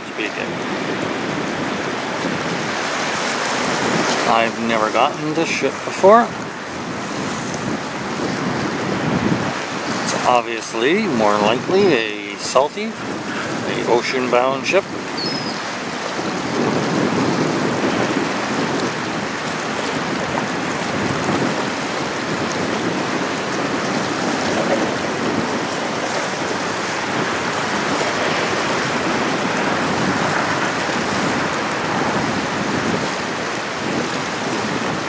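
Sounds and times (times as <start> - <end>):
small waves on water: 0.0 - 35.0
wind rushing: 0.0 - 35.0.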